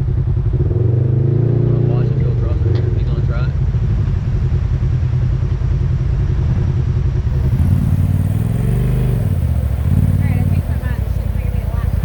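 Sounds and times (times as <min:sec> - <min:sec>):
off-road vehicle engine rumbling: 0:00.0 - 0:12.0.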